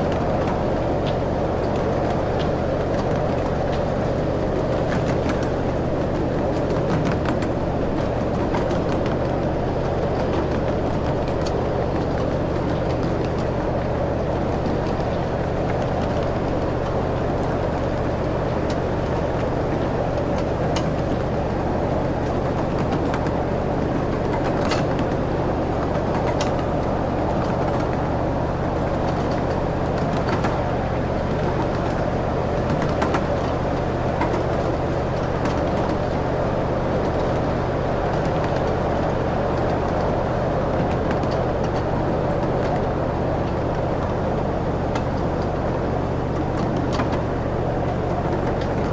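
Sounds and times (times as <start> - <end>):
low engine drone: 0.0 - 48.9.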